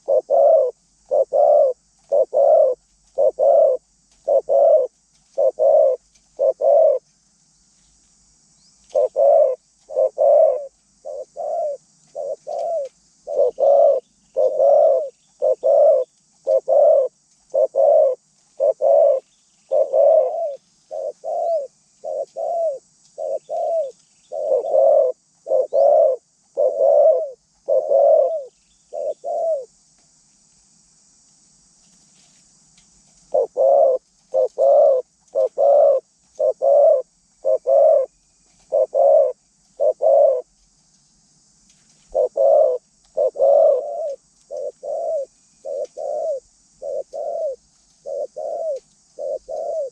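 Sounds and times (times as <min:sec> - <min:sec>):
dove cooing: 0:00.0 - 0:07.1, 0:08.9 - 0:29.7, 0:33.2 - 0:40.5, 0:42.1 - 0:49.9.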